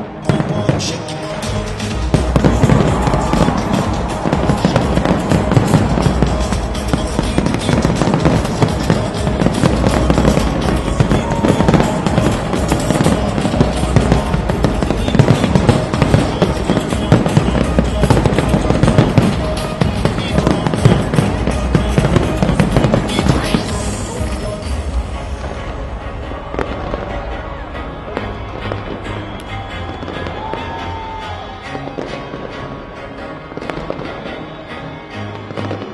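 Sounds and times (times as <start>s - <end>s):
fireworks bangs and crackles: 0.0s - 35.9s
music: 0.0s - 35.9s.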